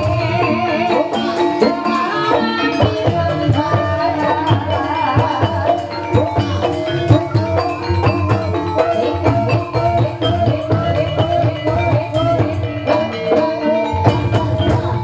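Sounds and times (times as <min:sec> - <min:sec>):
gamelan ensemble playing: 0:00.0 - 0:15.0.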